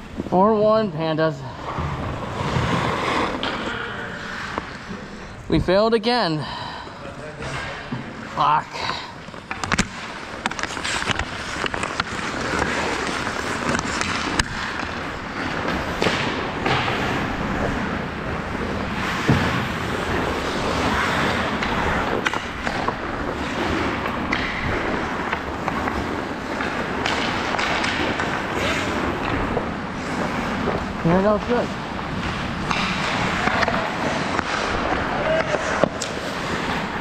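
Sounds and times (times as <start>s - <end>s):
hockey sticks clacking: 1.6s - 5.0s, 7.4s - 37.0s
skate blades scraping ice: 1.6s - 5.1s, 7.3s - 37.0s.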